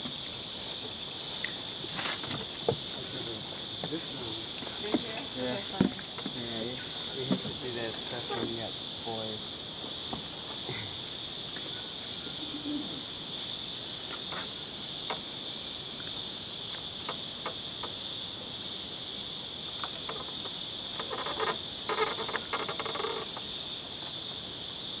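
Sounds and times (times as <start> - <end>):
forest insects chorus: 0.0 - 25.0.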